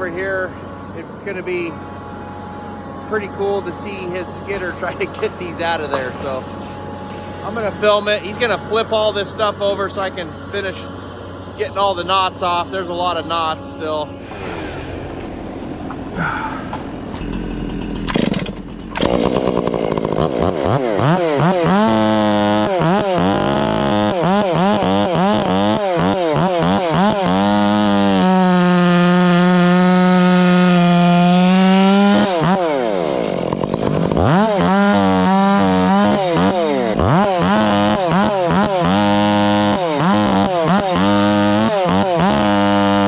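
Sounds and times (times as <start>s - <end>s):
chainsaw revving and cutting: 0.0s - 43.0s.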